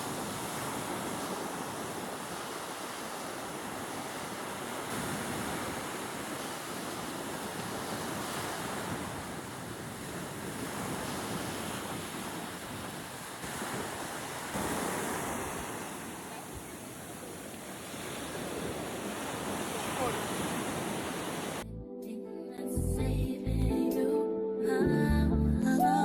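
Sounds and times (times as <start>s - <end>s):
sea waves rushing: 0.0s - 21.6s
wind buffeting microphone: 0.0s - 21.6s.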